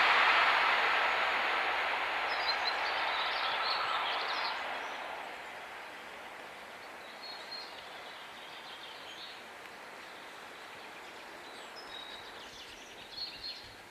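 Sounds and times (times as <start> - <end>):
quiet outdoor hiss: 0.0 - 13.9.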